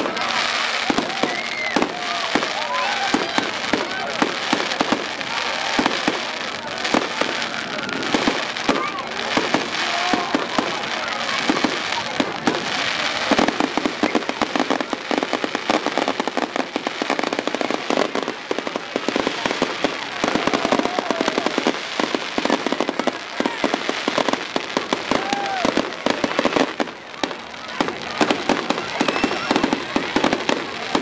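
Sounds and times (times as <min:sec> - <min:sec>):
fireworks popping and crackling: 0:00.0 - 0:31.0.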